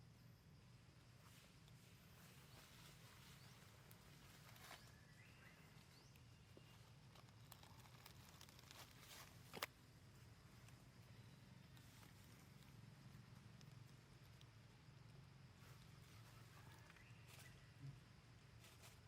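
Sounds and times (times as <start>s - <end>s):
faint rustles and clicks: 1.2s - 19.0s.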